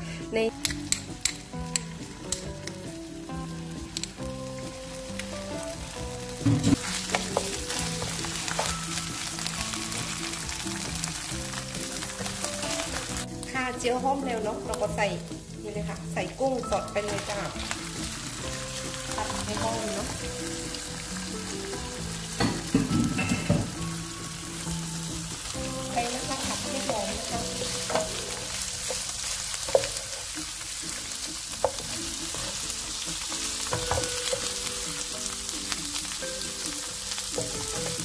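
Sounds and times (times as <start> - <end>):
shrimp sizzling in hot oil: 0.1 - 38.0.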